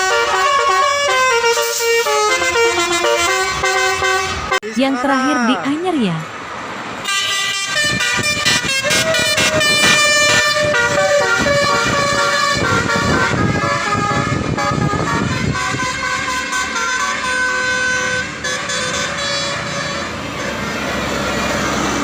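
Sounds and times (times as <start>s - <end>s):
multi-tone musical air horn: 0.0s - 4.8s, 7.0s - 21.4s.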